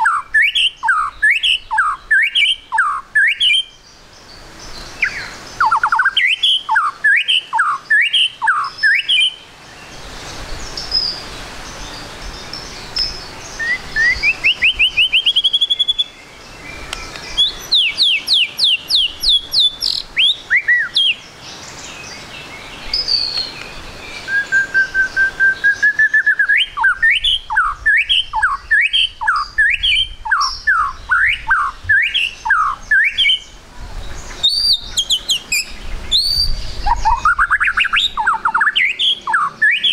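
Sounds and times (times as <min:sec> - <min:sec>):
bird singing whistled phrases: 0:00.0 - 0:03.8, 0:05.0 - 0:09.4, 0:12.8 - 0:21.3, 0:22.9 - 0:33.6, 0:34.3 - 0:39.9.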